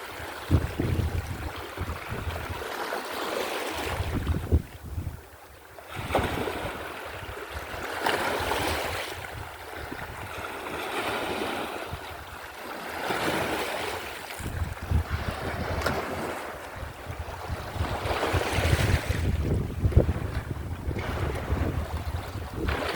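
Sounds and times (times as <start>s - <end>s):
sea waves washing ashore: 0.0s - 22.9s
wind rumbling on microphone: 0.1s - 2.7s, 3.8s - 10.6s, 11.2s - 12.4s, 13.2s - 22.9s.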